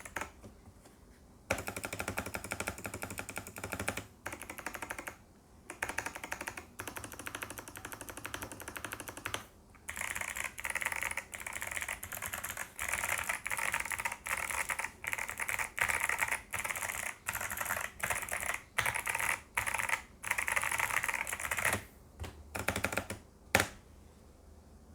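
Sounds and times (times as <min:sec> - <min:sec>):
fast clicky keyboard typing: 0:00.0 - 0:00.5, 0:01.5 - 0:23.8.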